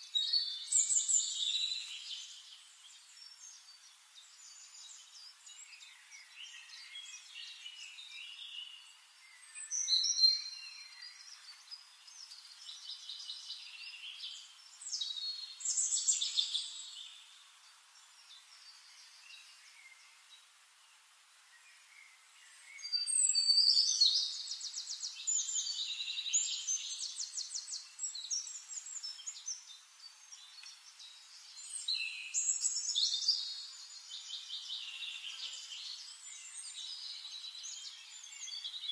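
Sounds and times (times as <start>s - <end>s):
birds chirping and trilling: 0.0s - 20.6s, 21.3s - 38.9s
faint steady hiss: 0.0s - 38.9s.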